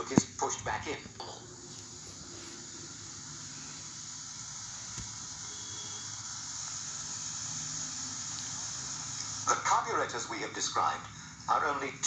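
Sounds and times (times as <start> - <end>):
steady hiss from laptop speaker: 0.0 - 12.0.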